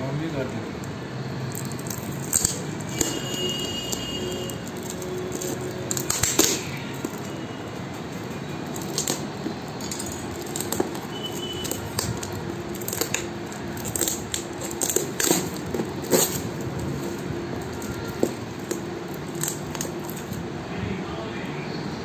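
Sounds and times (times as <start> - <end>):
wrapping crinkling and tearing: 1.4 - 20.5.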